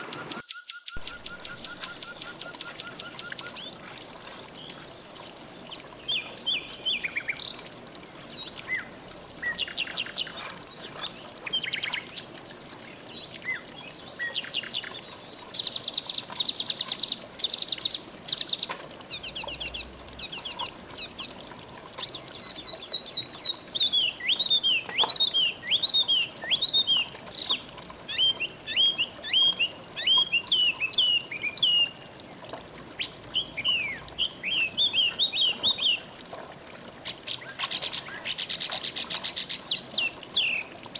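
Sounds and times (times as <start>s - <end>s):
songbirds singing: 0.0s - 3.8s, 4.5s - 21.4s, 22.0s - 32.0s, 32.9s - 36.1s, 37.0s - 40.8s
flowing river water: 1.0s - 40.9s.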